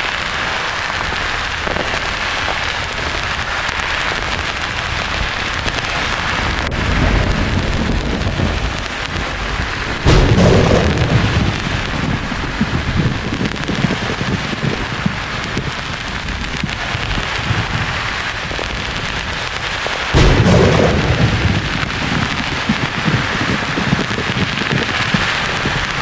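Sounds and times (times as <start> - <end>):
thunder rumbling: 0.8 - 26.0
loud thunderclap: 1.0 - 26.0.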